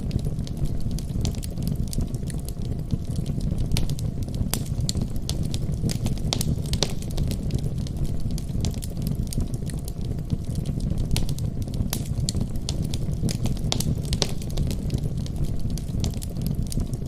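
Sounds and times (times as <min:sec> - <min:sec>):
low fire rumble: 0:00.0 - 0:17.0
wood fire crackling: 0:00.0 - 0:17.0.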